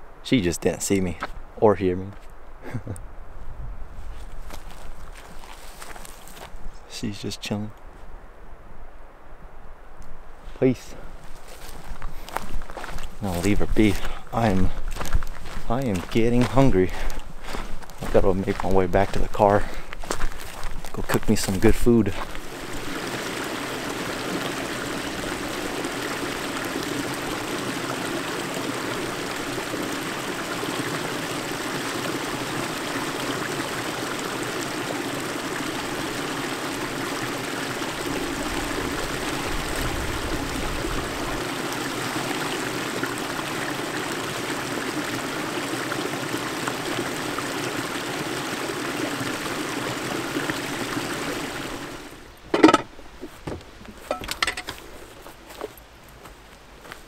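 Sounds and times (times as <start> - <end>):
creek running over rocks: 4.1 - 7.7, 10.5 - 57.0.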